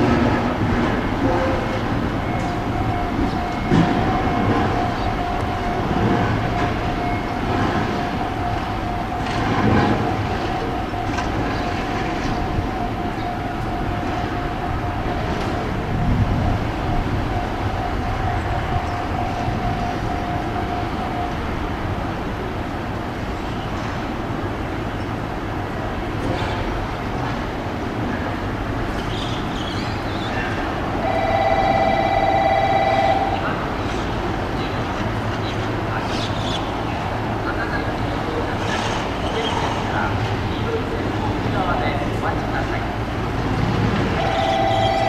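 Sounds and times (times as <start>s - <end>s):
train noise: 0.0s - 45.0s.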